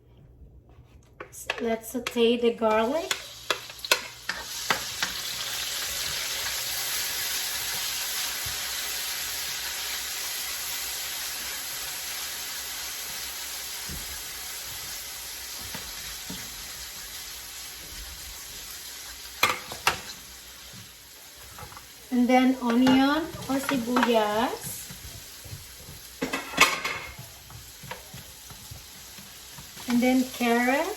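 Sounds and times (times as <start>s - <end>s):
garlic sizzling in a pan: 2.6s - 30.9s.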